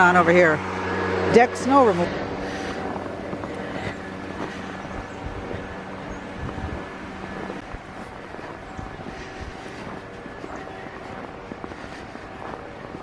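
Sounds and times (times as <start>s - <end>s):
snow blower engine running: 0.0s - 13.0s.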